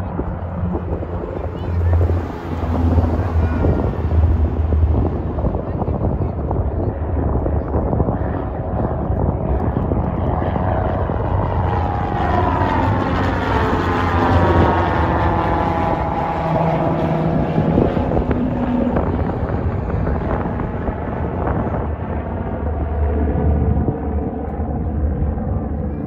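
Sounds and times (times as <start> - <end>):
turboprop plane flying overhead: 0.0 - 26.0.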